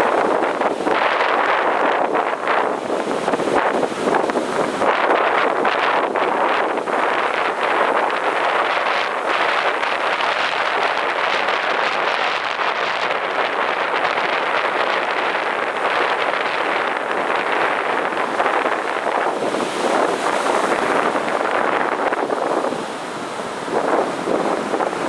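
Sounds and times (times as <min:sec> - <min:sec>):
sea surf breaking: 0:00.0 - 0:25.0
wind buffeting microphone: 0:00.0 - 0:25.0.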